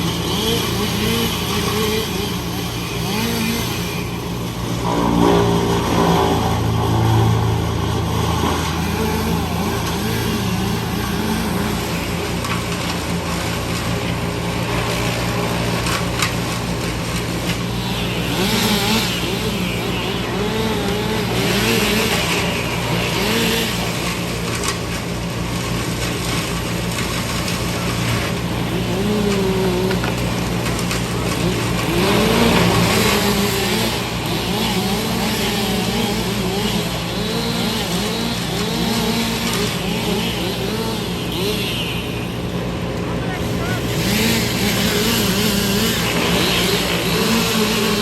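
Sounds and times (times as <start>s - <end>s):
heavy machinery engine running: 0.0s - 48.0s.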